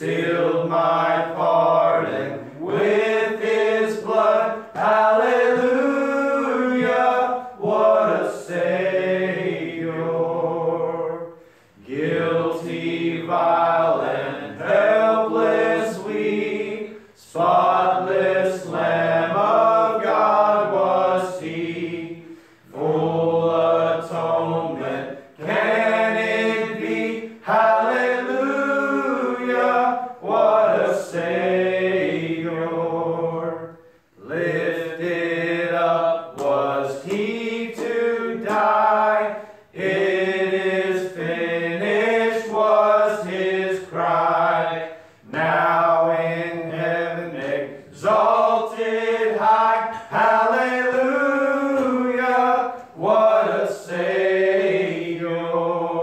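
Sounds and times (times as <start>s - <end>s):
man singing a hymn: 0.0s - 56.0s.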